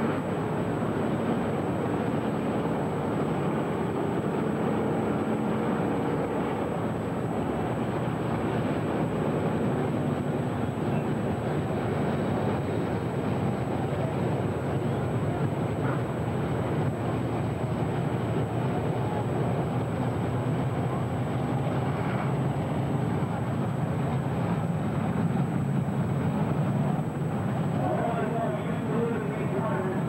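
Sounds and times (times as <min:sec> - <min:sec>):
distant race car engines rumbling: 0:00.0 - 0:30.0.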